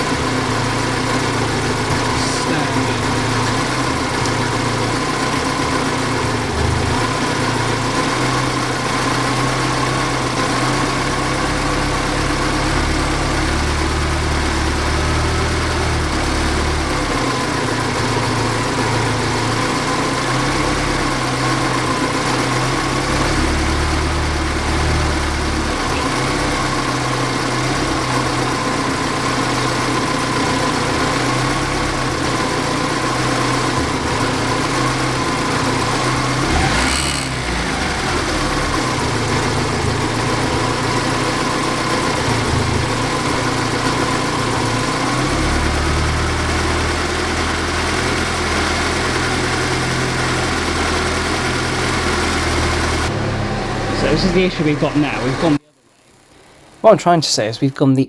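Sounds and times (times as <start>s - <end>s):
car engine idling: 0.0s - 57.5s.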